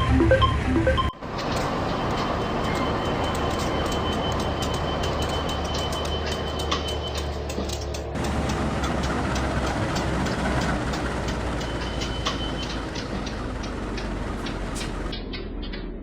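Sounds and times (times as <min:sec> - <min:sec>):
rail clicks: 0:00.0 - 0:15.8
locomotive low drone: 0:00.0 - 0:16.0.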